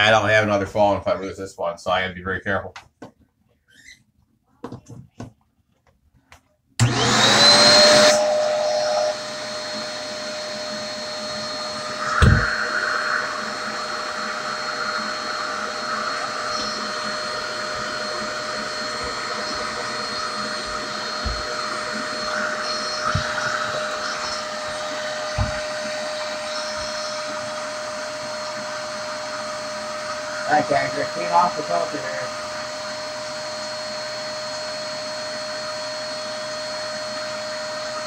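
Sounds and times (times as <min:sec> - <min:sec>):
vacuum cleaner motor whine: 0:06.8 - 0:38.0.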